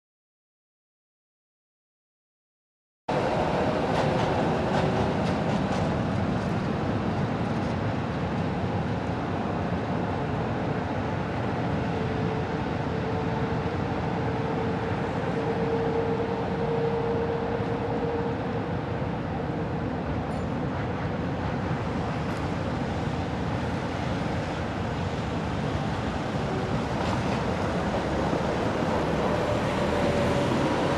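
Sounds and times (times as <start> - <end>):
tram wheels rumbling on rails: 3.1 - 30.9
tram whine: 3.1 - 30.9.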